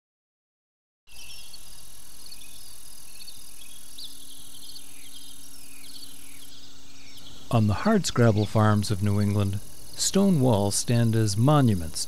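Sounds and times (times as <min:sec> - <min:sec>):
insect chirps: 0:01.1 - 0:12.0
insects trilling: 0:01.1 - 0:12.0
faint low hum: 0:01.2 - 0:12.0.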